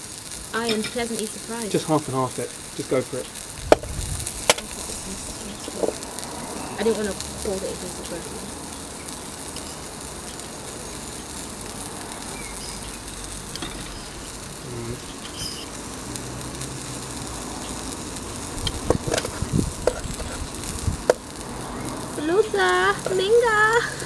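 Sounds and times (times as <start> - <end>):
steak sizzling: 0.0 - 24.0.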